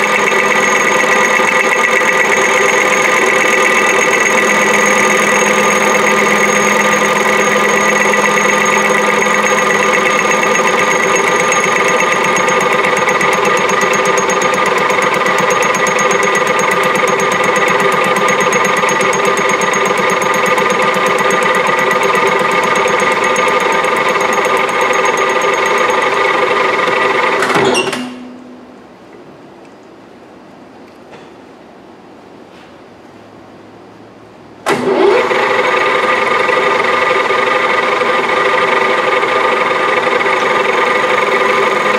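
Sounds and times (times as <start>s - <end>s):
metal lathe running: 0.0s - 27.5s, 34.7s - 41.9s.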